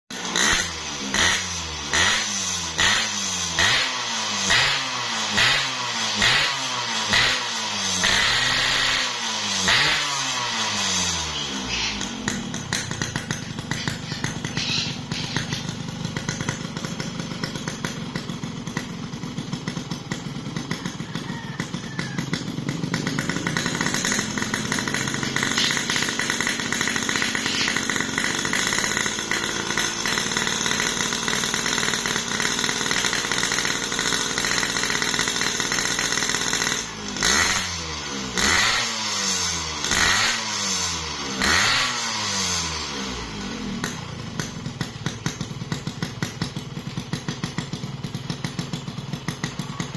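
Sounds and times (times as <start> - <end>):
two-stroke motorcycle engine revving: 0.0 - 49.9.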